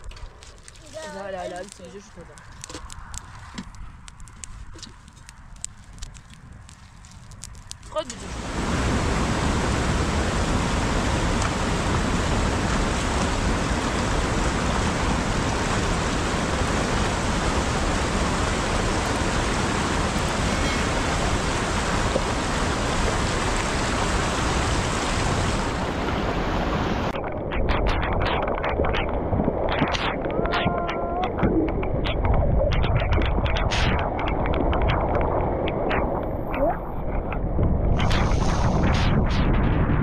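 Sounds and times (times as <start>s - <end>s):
floodwater rushing: 0.0s - 39.2s.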